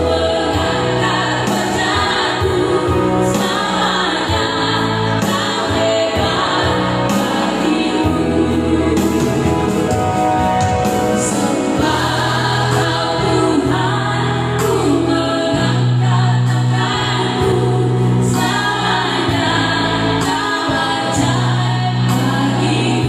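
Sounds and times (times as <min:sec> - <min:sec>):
women singing worship song: 0:00.0 - 0:10.0, 0:11.2 - 0:23.0.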